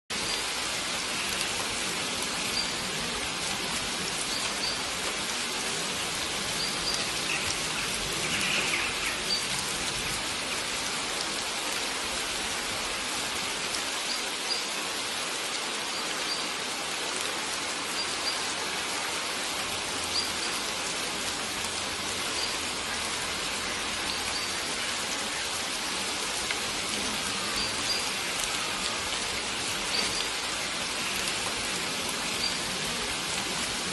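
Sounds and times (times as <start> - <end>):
flowing stream: 0.1 - 33.9
rain falling: 0.1 - 33.9.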